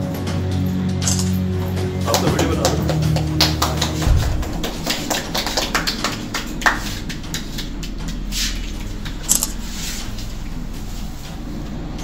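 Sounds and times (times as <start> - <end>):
low steady hum: 2.3 - 12.0.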